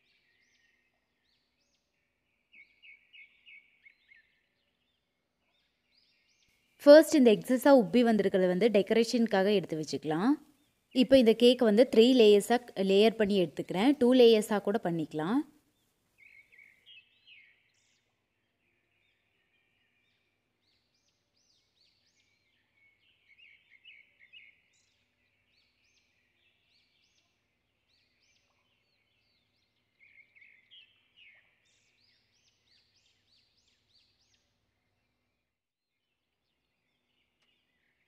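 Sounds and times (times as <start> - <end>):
small birds chirping faintly: 0.0 - 35.5, 36.2 - 38.0.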